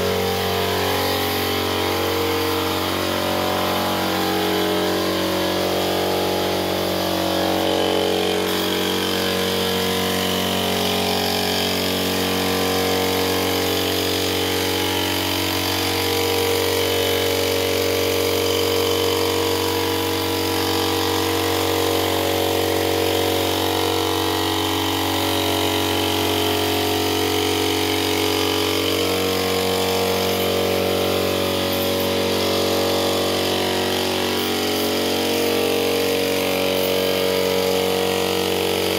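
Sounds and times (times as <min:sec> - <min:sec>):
air compressor hum: 0:00.0 - 0:38.9.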